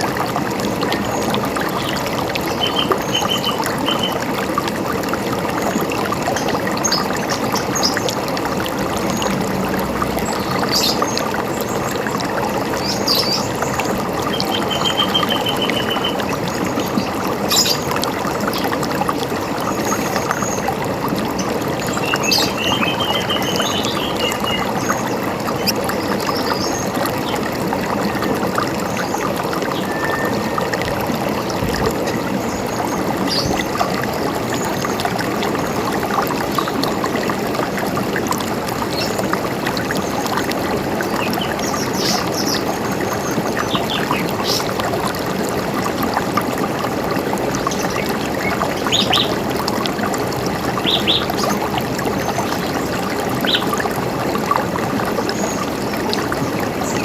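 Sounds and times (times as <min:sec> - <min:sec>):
river water running over rocks: 0:00.0 - 0:57.0.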